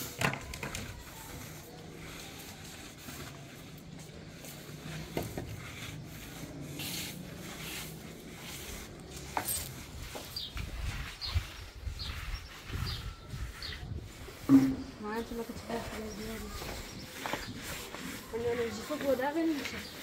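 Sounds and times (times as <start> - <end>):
mop swishing on wet tiles: 0.0 - 20.0.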